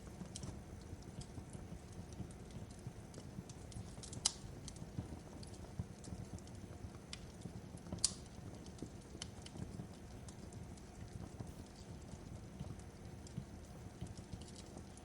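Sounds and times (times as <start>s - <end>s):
fireplace crackling and snapping: 0.0s - 15.0s
low rumble of burning: 0.0s - 15.0s.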